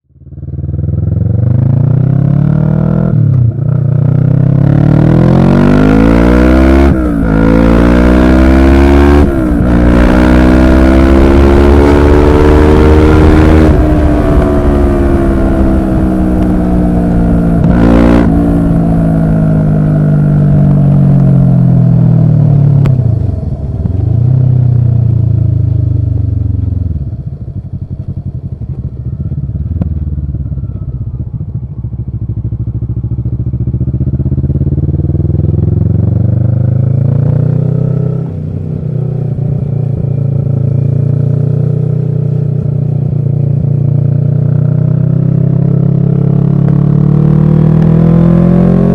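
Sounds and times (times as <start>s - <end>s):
motorcycle engine while riding: 0.1s - 48.9s.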